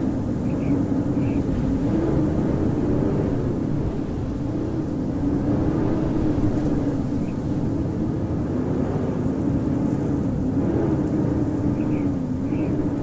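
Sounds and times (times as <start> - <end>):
howling wind: 0.0 - 13.0.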